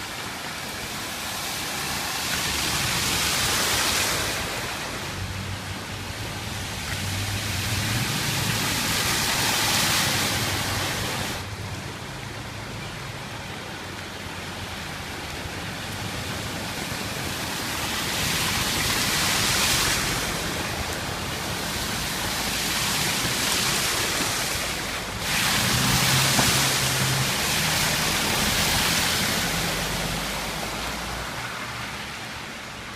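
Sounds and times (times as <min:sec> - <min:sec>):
heavy water rushing: 0:00.0 - 0:32.9.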